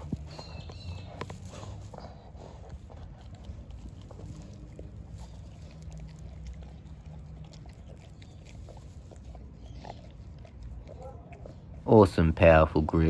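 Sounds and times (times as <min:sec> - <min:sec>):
dog chewing and licking: 0:00.0 - 0:13.0.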